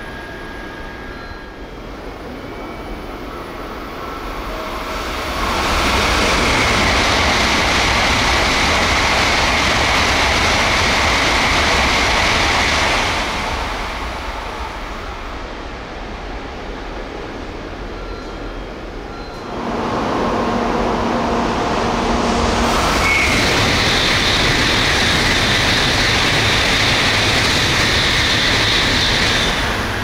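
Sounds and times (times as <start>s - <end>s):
high-speed train passing: 0.0s - 30.0s.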